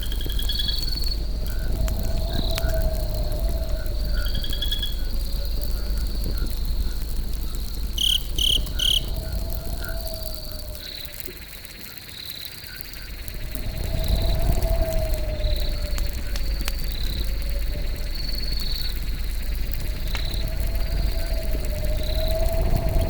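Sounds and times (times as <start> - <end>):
campfire rumble and crackle: 0.0 - 23.0
crickets trilling: 0.0 - 23.0.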